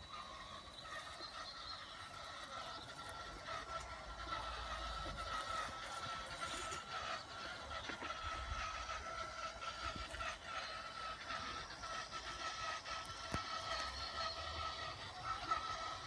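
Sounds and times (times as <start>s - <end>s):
robotic lawn mower motors whining: 0.0s - 16.0s.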